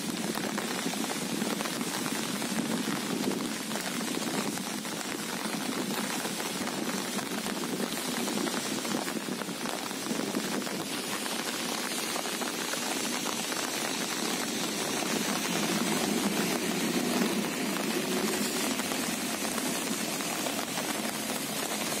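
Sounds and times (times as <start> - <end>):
rain on wet paving and water: 0.0 - 22.0.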